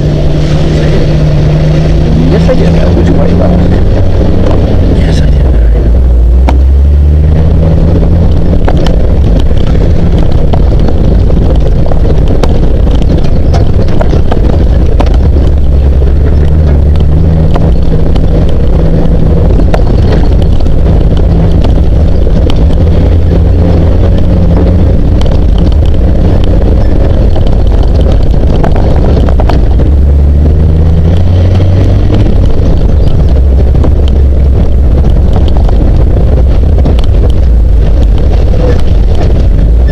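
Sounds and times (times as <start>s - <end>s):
off-road vehicle engine running: 0.0s - 39.9s
vehicle knocks and rattles: 2.3s - 39.9s.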